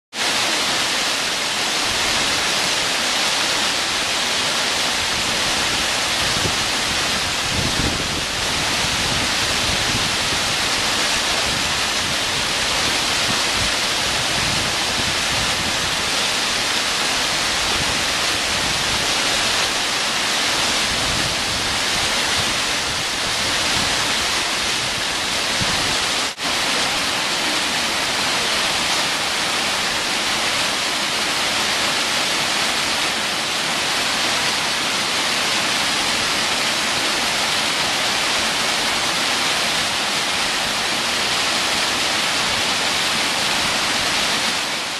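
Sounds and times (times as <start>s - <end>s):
waterfall rushing over rocks: 0.1s - 44.9s.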